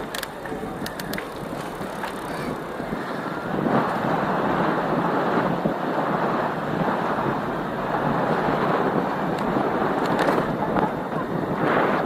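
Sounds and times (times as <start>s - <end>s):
bicycle rolling noise: 0.0s - 12.0s
wind buffeting microphone: 0.0s - 12.0s.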